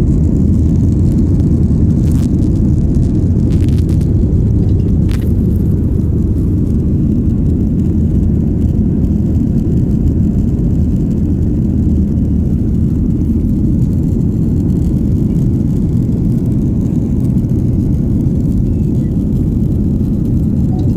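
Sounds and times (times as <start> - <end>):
jet engines rumbling: 0.0 - 20.9.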